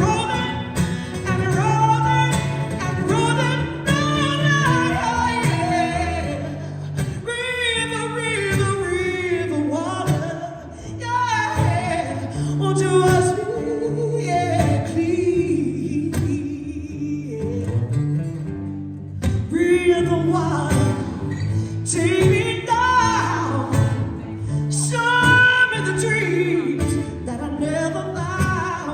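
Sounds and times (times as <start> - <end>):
person singing: 0.0 - 17.9, 19.3 - 28.9.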